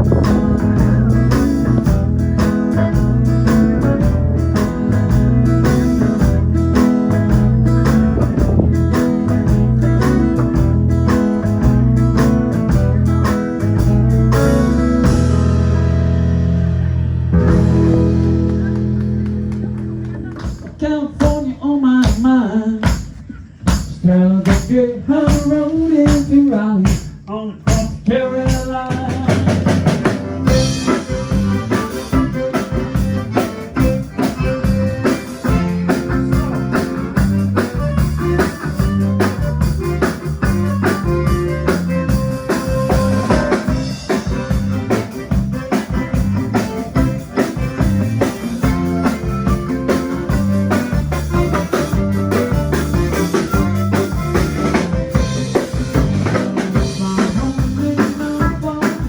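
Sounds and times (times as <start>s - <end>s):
band playing drums and bass: 0.0s - 59.0s.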